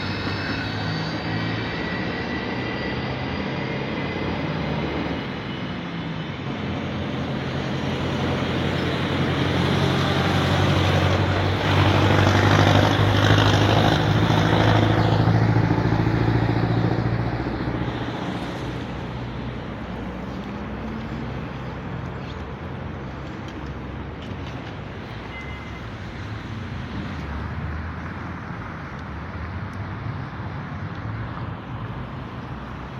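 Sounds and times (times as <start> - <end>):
train passing with rumble: 0.0 - 32.9.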